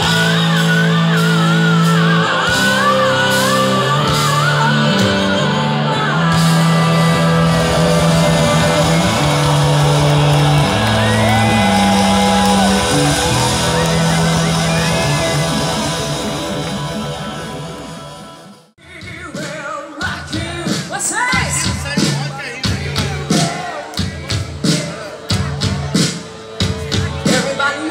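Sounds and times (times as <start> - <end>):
person singing: 0.0 - 26.2
live rock band playing: 0.0 - 27.9.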